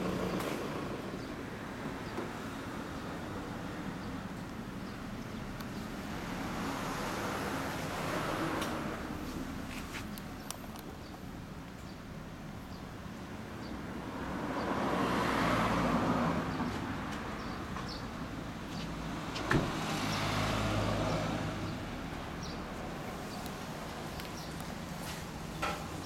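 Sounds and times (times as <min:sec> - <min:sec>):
passing vehicle: 0:00.0 - 0:10.8, 0:13.6 - 0:26.0.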